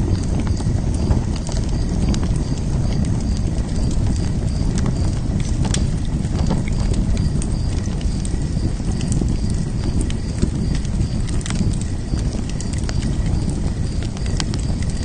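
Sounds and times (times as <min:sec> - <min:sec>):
flames rumbling: 0:00.0 - 0:15.0
wood crackling and popping: 0:00.0 - 0:15.0.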